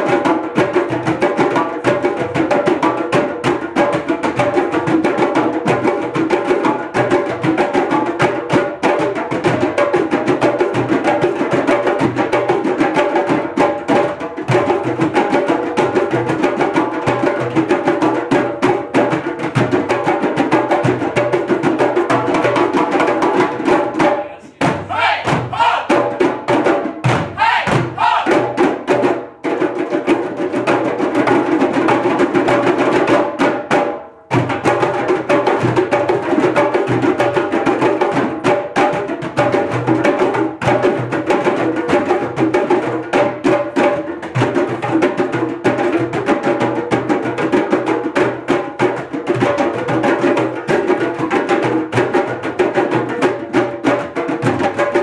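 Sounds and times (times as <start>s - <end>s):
djembes played by hand: 0.0s - 55.0s.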